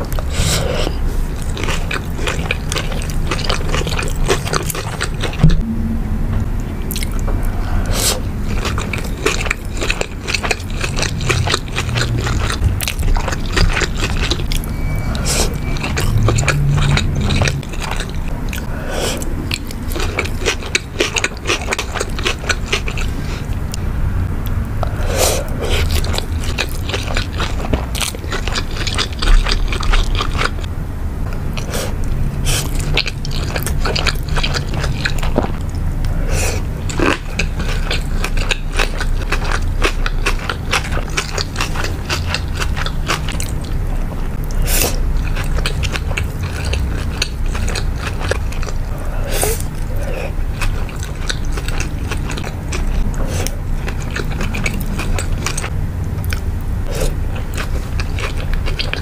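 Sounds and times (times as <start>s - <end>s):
person biting and chewing food: 6.9s - 23.8s, 24.5s - 30.7s, 31.3s - 59.0s.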